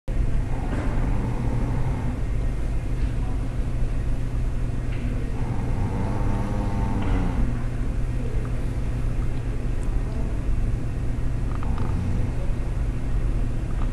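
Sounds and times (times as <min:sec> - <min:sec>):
low rumbling hum: 0:00.1 - 0:13.9.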